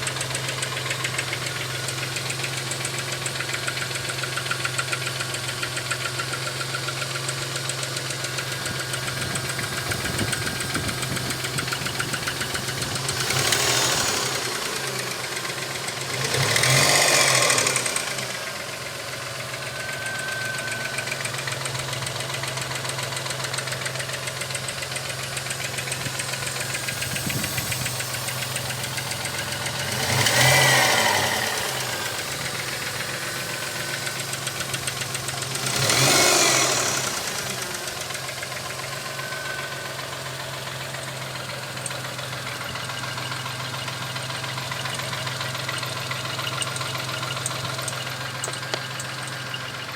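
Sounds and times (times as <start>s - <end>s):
engine idling and revving: 0.0s - 49.9s.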